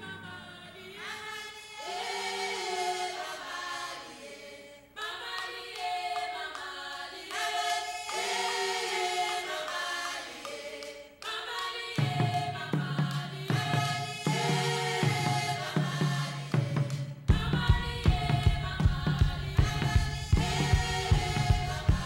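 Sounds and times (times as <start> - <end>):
choir singing: 0.0 - 22.0.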